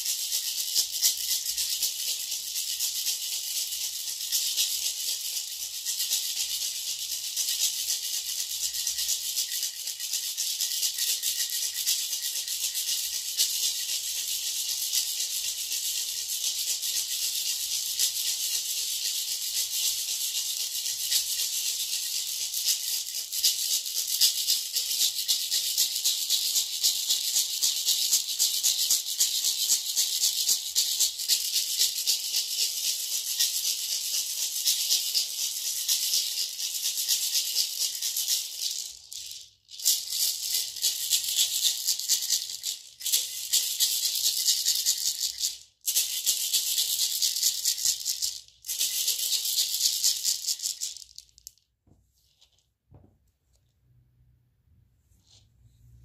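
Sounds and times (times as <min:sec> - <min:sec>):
gourd rattle shaken: 0:00.0 - 0:51.7.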